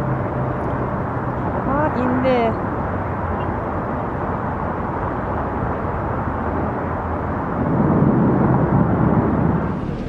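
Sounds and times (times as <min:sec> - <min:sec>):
outdoor rumble: 0:00.0 - 0:10.0.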